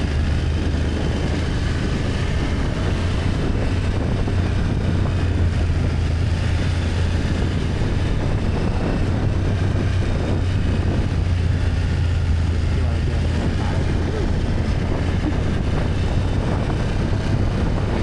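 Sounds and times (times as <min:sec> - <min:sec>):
motorcycle engine droning: 0:00.0 - 0:18.0
wind and road noise: 0:00.0 - 0:18.0.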